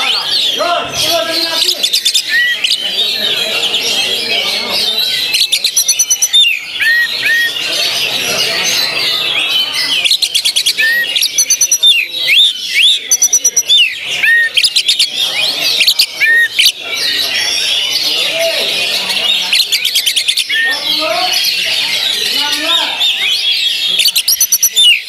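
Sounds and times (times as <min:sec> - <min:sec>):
bird singing whistled notes: 0:00.0 - 0:03.3, 0:04.1 - 0:25.0.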